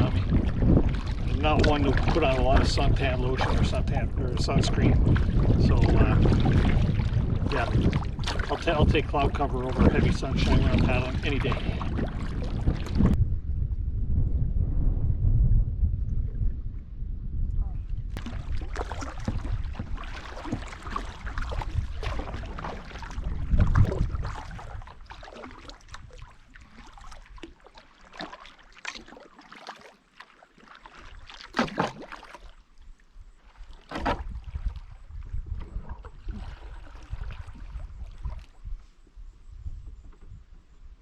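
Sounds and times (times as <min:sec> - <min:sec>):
canoe paddle strokes in water: 0:00.0 - 0:13.2, 0:18.1 - 0:41.0
water splashes and drips: 0:00.0 - 0:13.2, 0:18.2 - 0:38.6
wind on microphone: 0:00.0 - 0:27.5, 0:33.2 - 0:41.0.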